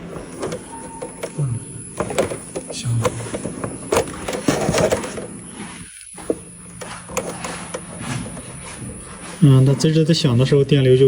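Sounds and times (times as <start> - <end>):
electrical chirping and clicking: 0.0 - 10.5.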